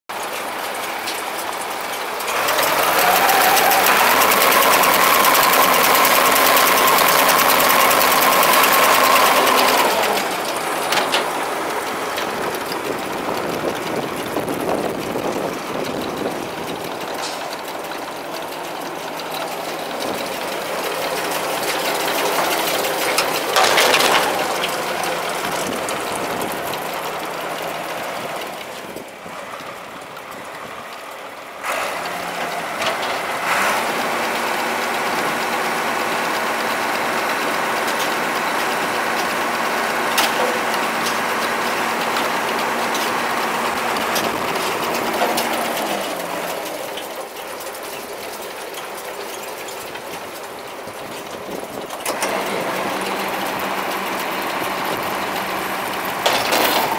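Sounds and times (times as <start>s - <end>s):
tractor engine running: 0.0s - 56.9s
baler mechanism rattling: 0.1s - 31.4s, 37.4s - 56.9s.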